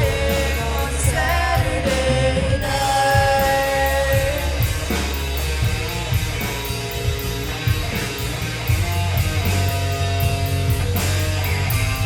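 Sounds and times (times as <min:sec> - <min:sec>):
bass guitar: 0:00.0 - 0:12.0
electric guitar strumming: 0:00.0 - 0:12.0
steady drum beat: 0:00.0 - 0:12.0.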